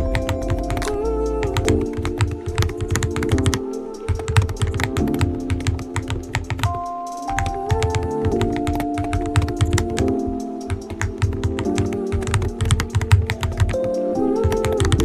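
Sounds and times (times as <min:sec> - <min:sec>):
background music with held chords: 0:00.0 - 0:15.0
mechanical keyboard typing: 0:00.0 - 0:15.0.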